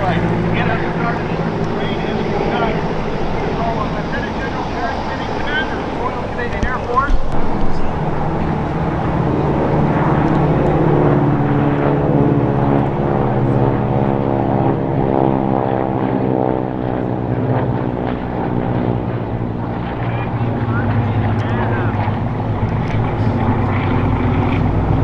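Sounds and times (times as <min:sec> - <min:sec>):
propeller aircraft flying past: 0:00.0 - 0:25.0.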